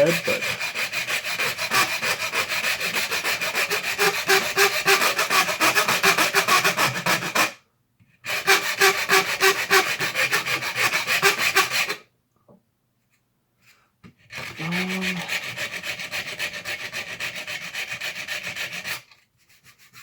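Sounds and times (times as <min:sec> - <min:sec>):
file rasping on plastic: 0:00.0 - 0:07.6, 0:08.2 - 0:12.1, 0:14.1 - 0:20.0.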